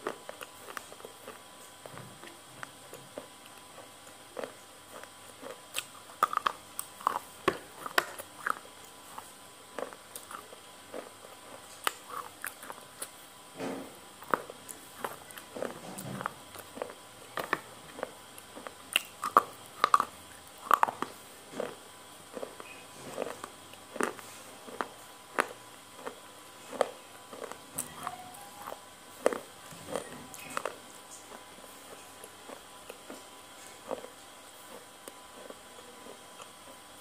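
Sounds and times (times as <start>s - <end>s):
wet chewing mouth sounds: 0.0s - 36.8s.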